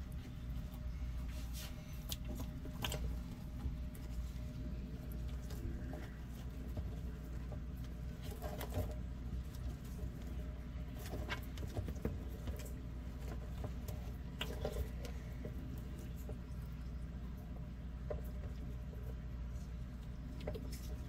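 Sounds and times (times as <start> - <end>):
light ticks and scratches: 0.0 - 21.0
steady low hum: 0.0 - 21.0.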